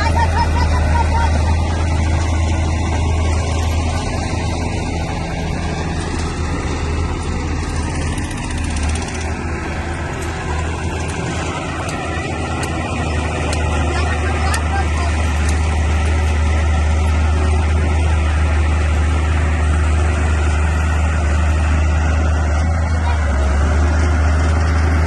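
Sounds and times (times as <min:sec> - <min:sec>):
bulldozer diesel engine humming: 0:00.0 - 0:25.0.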